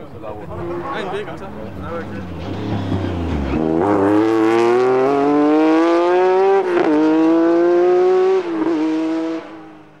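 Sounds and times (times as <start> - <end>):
rally car engine accelerating: 1.7 - 10.0.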